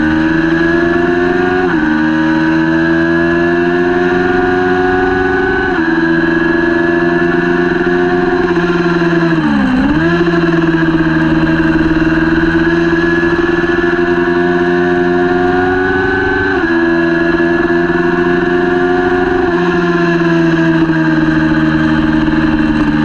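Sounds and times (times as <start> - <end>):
motorcycle engine revving high: 0.0 - 23.0.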